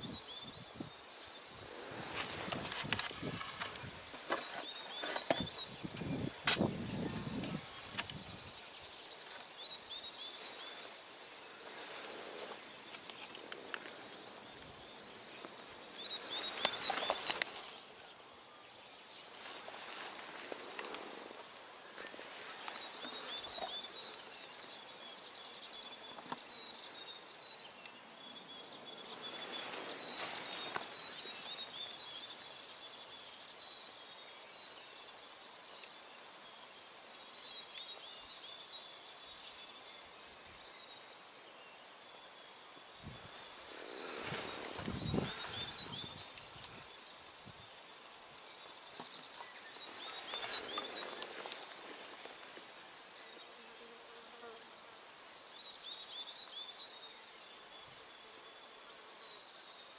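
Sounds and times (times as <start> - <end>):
small birds singing trills: 0.0 - 59.9.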